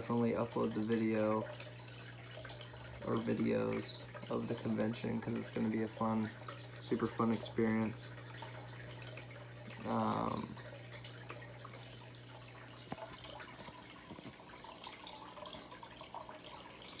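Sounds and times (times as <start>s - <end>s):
water trickling and bubbling: 0.0s - 17.0s.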